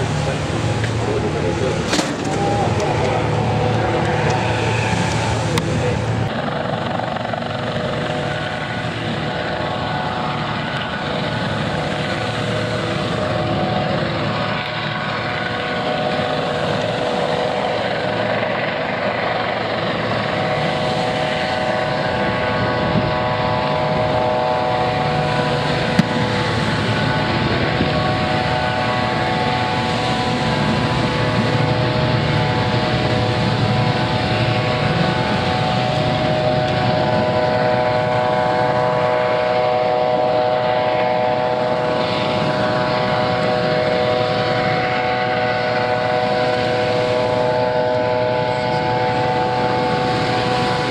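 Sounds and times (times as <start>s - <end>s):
helicopter engine whine: 0.0s - 50.9s
helicopter rotor noise: 0.0s - 50.9s.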